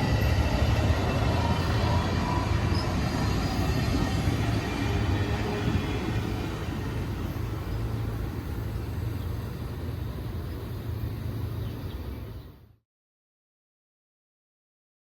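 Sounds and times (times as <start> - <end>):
train wheels rumbling on rail: 0.0 - 12.5.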